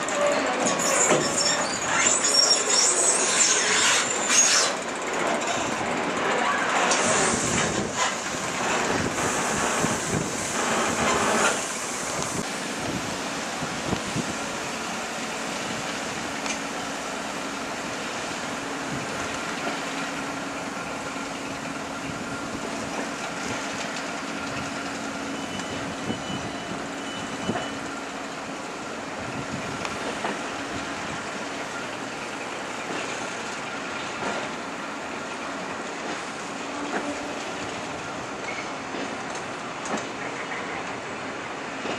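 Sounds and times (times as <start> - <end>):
diesel locomotive engine hum: 0.0 - 41.9.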